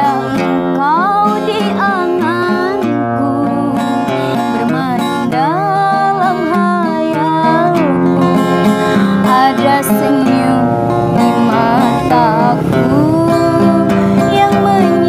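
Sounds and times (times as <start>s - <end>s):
strummed acoustic guitar: 0.0s - 15.0s
woman singing: 0.0s - 15.0s.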